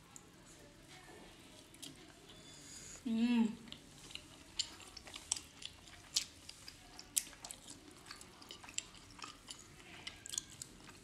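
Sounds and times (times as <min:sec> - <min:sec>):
people chewing: 0:01.4 - 0:03.0, 0:03.6 - 0:11.0.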